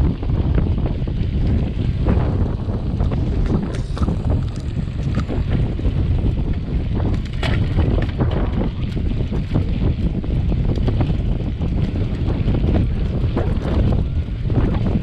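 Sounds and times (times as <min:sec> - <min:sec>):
bike clicks and rattles: 0:00.0 - 0:15.0
low rumble: 0:00.0 - 0:15.0
wind buffeting microphone: 0:00.0 - 0:15.0.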